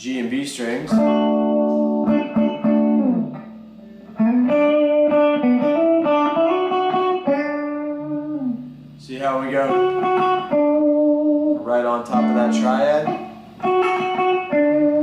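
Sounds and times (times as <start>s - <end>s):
electric guitar lead lick: 0.6s - 15.0s.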